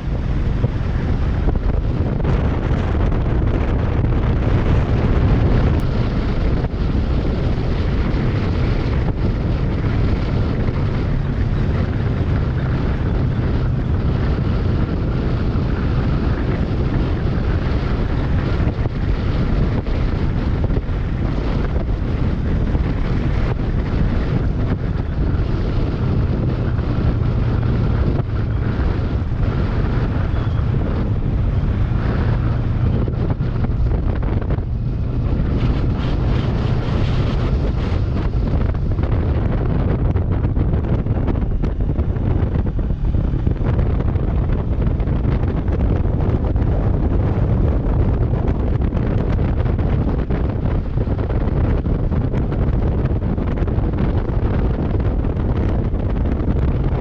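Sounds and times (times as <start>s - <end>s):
motorcycle engine droning: 0.0s - 57.0s
wind rushing over microphone: 0.0s - 57.0s.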